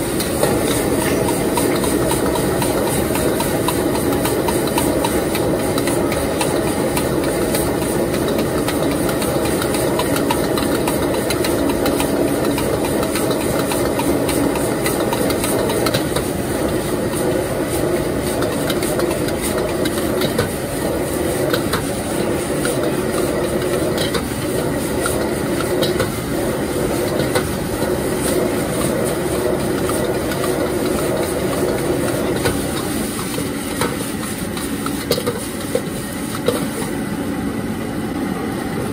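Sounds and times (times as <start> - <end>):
gas burner rushing: 0.0 - 38.9.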